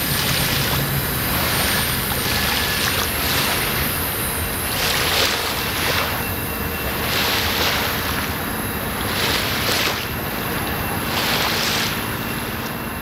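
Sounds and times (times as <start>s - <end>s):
small waves washing on shore: 0.0s - 12.8s.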